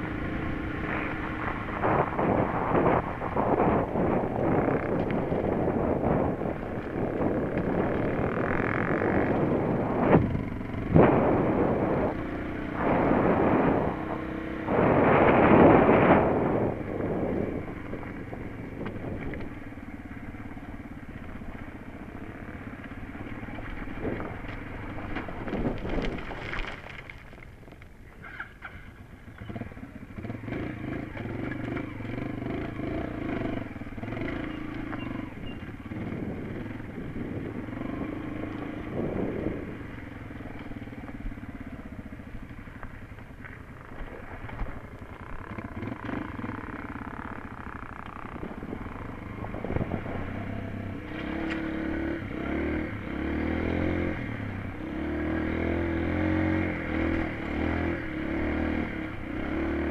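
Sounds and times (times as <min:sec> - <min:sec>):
wind noise on microphone: 0:00.0 - 0:28.1, 0:30.2 - 0:59.9
motorcycle engine running: 0:00.0 - 0:59.9.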